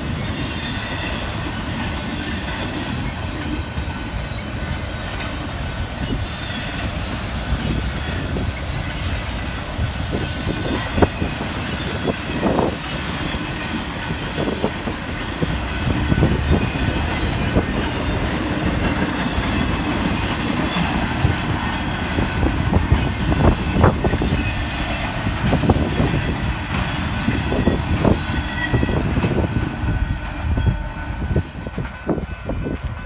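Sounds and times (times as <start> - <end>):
sharp clacks of train wheels: 0.0 - 33.0
train wheels rumbling on rail: 0.0 - 33.0.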